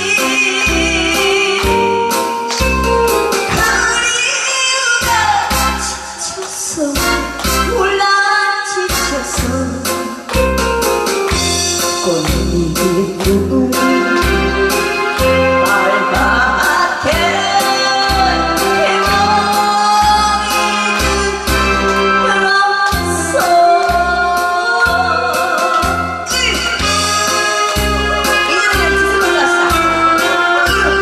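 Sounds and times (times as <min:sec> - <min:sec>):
woman singing with vibrato: 0:00.0 - 0:02.4, 0:03.1 - 0:10.2, 0:12.0 - 0:31.0
amplified backing music: 0:00.0 - 0:31.0.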